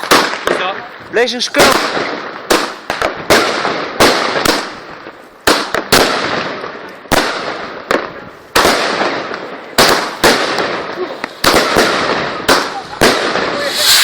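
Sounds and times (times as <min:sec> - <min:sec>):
firework bangs: 0:00.0 - 0:14.0
firework crackling hiss: 0:00.0 - 0:14.0.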